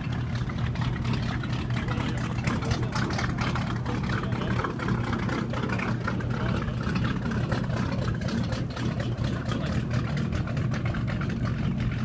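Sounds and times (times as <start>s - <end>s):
boat engine low rumble: 0.0s - 12.0s.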